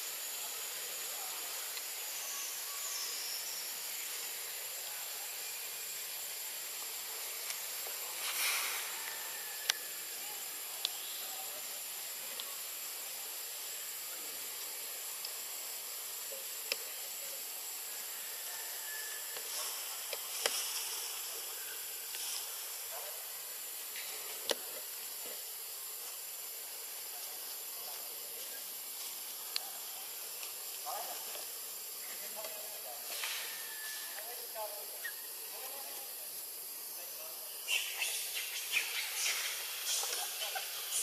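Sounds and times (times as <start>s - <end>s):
high-pitched forest hiss: 0.0s - 41.0s.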